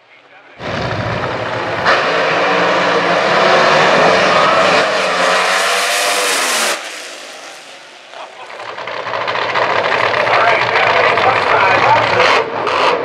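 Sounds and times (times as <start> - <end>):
drag racing car engine roaring: 0.1 - 13.0.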